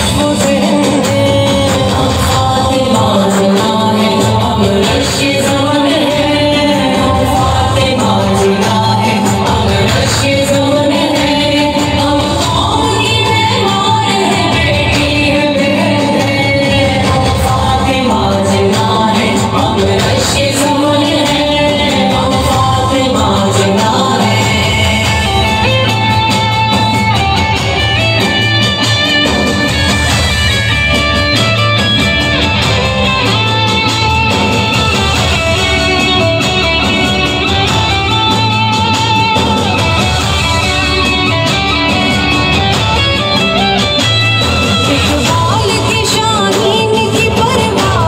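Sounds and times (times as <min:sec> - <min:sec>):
woman singing into microphone: 0:00.0 - 0:27.3, 0:34.8 - 0:48.0
instrumental backing music: 0:00.0 - 0:48.0.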